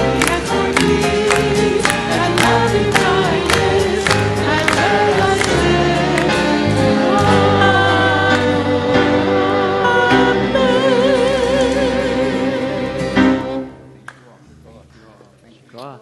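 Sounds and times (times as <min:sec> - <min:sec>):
person singing with vibrato: 0:00.0 - 0:13.6.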